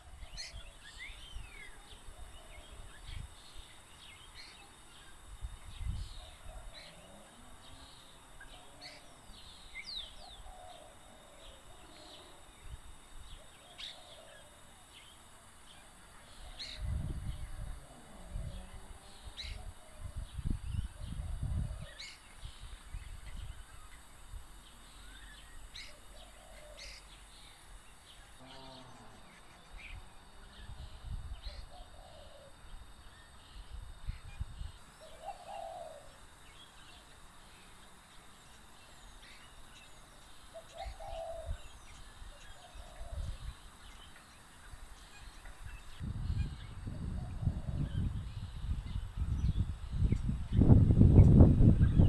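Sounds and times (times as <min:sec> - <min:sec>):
starlings calling: 0:00.0 - 0:52.0.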